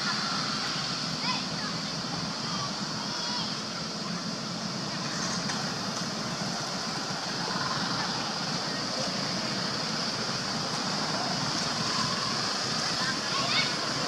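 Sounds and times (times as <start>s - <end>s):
high hiss: 0.0s - 14.0s.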